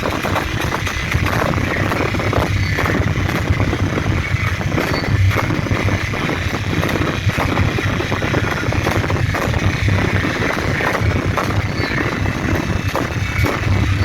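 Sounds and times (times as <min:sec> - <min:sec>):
loud distorted live band: 0:00.0 - 0:14.0.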